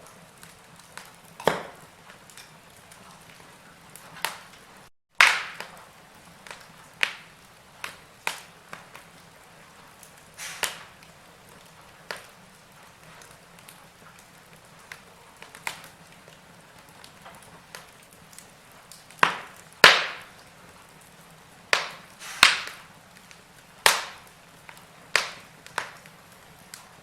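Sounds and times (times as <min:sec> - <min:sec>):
fire crackling: 0:00.0 - 0:27.0
logs burning in fireplace: 0:00.0 - 0:27.0
loud fire pops: 0:00.0 - 0:27.0.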